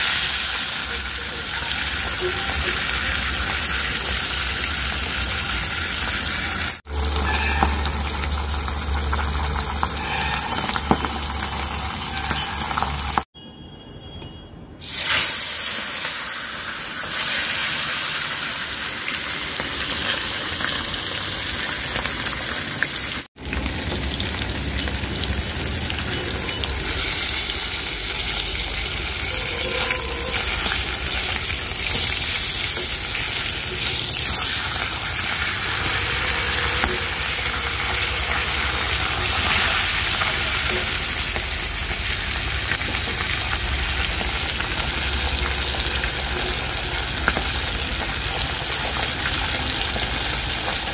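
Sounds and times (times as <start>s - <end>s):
fish sizzling in hot oil: 0.0s - 13.2s, 14.8s - 50.9s.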